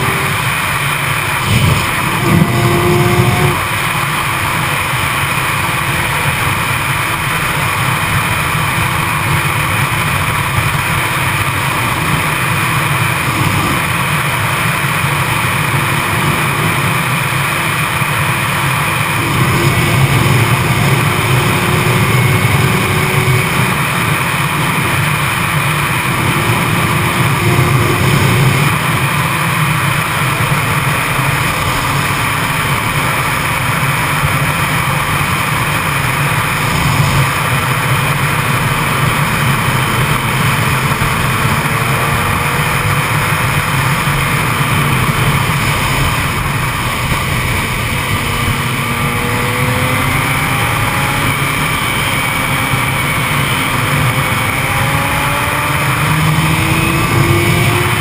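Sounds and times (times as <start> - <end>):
motorcycle engine running: 0.0 - 58.0
wind rushing over camera: 6.5 - 58.0.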